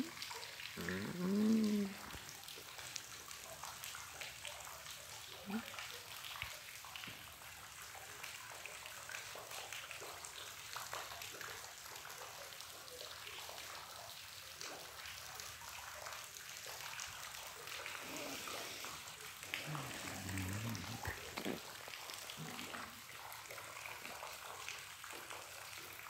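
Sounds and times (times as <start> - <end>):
water dripping onto rocks and pool: 0.0 - 26.0.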